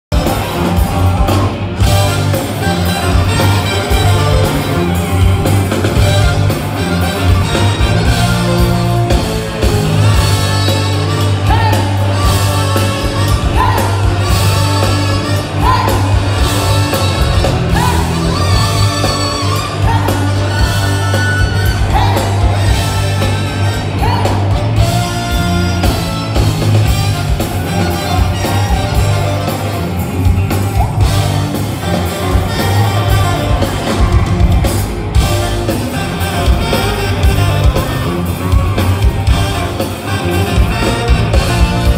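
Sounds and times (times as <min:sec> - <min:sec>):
funk brass band playing: 0:00.1 - 0:41.9.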